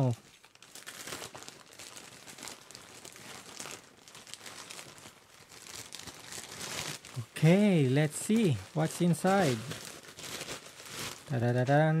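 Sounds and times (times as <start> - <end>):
mailer bag crinkling: 0.0 - 12.0.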